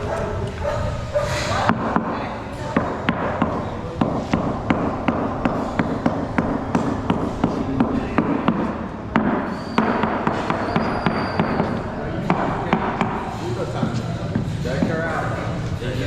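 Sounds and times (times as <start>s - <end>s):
steady noisy background: 0.0s - 16.0s
sharp regular knocks: 1.5s - 15.7s.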